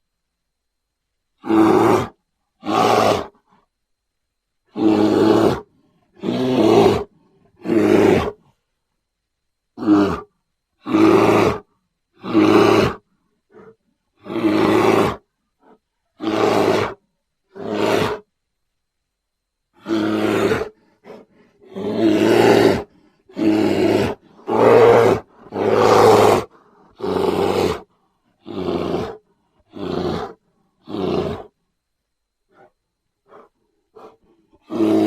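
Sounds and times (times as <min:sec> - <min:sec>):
grizzly bear roaring: 0:01.4 - 0:03.4, 0:04.7 - 0:08.5, 0:09.8 - 0:18.3, 0:19.8 - 0:31.6, 0:32.5 - 0:35.0.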